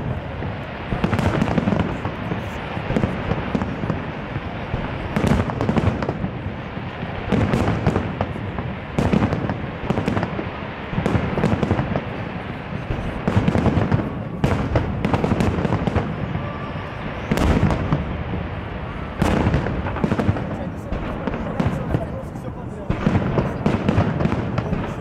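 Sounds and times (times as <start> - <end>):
firework sharp pops: 0.0 - 18.5, 19.1 - 22.3, 22.9 - 25.0.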